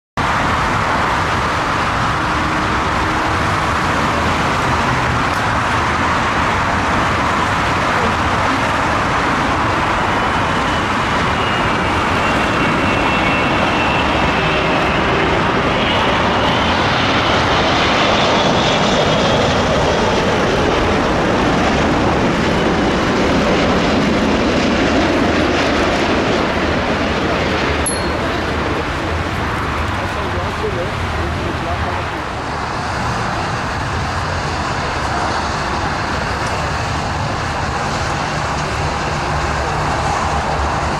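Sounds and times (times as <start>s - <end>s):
jet engines roaring: 0.2s - 40.9s.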